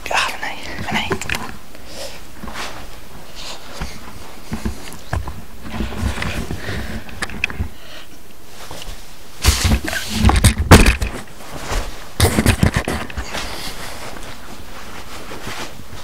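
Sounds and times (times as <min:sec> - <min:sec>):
steady hiss: 0:00.0 - 0:16.0
rustling and handling noise: 0:00.2 - 0:16.0.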